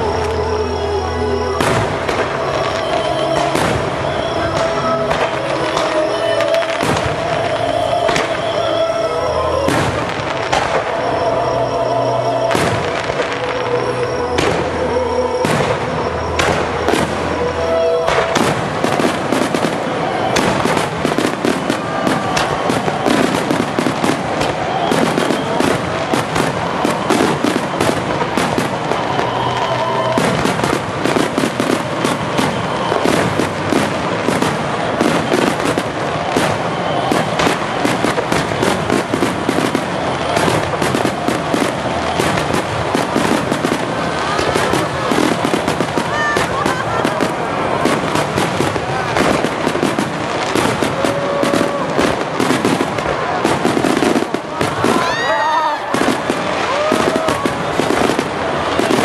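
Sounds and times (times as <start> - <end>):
fireworks launching and bursting: 0.0 - 59.0.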